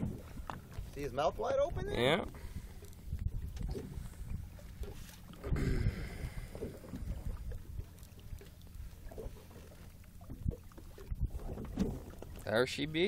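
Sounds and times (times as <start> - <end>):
wind on microphone: 0.0 - 9.4, 10.2 - 12.2
water lapping against boat: 0.0 - 13.0.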